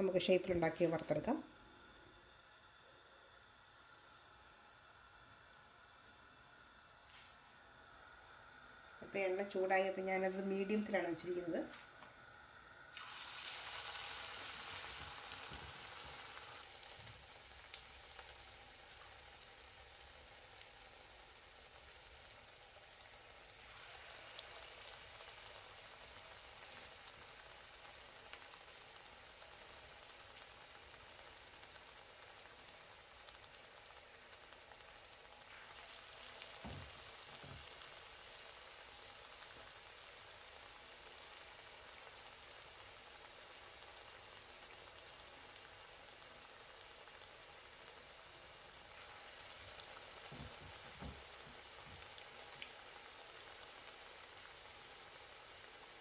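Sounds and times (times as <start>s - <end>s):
food sizzling in oil: 0.0s - 56.0s.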